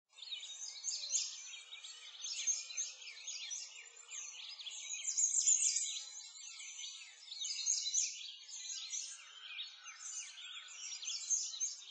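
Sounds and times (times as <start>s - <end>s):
small birds chirping and singing: 0.1s - 11.9s.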